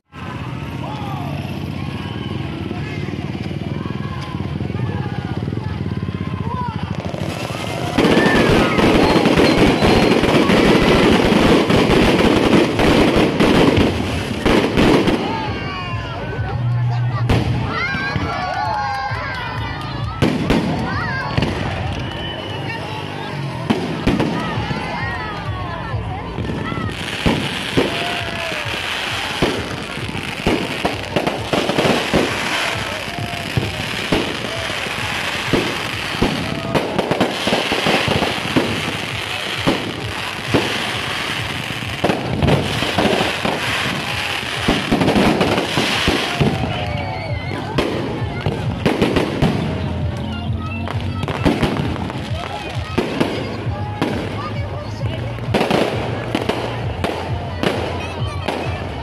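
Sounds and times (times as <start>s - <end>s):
firework fountain crackling: 0.0s - 59.0s.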